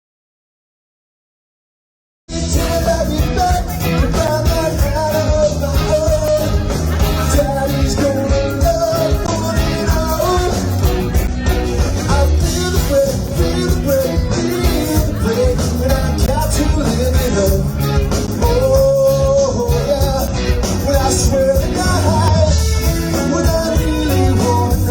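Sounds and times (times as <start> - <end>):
rock band playing live: 2.3 - 24.9.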